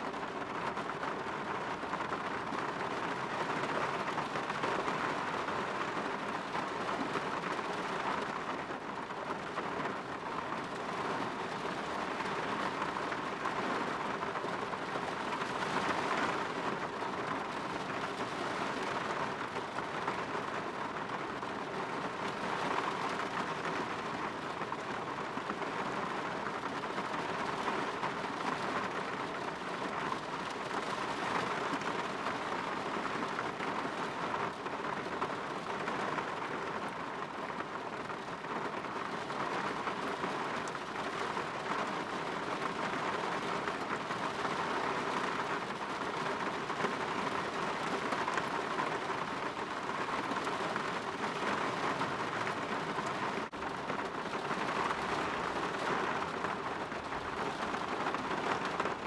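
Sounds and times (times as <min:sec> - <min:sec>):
rain against a window: 0:00.0 - 0:59.0.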